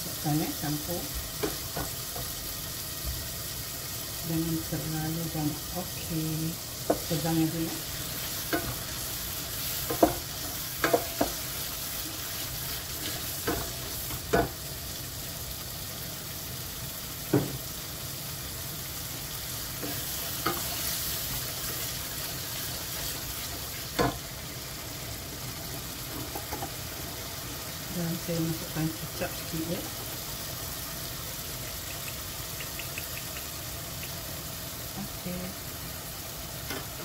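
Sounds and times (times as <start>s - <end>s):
paste sizzling in saucepan: 0.0s - 37.0s.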